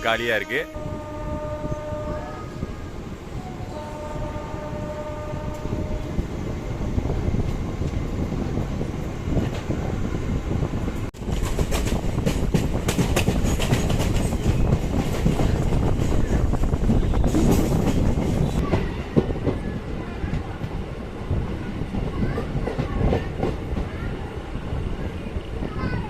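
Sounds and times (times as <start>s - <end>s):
train rumble and wheel noise: 0.0s - 26.0s.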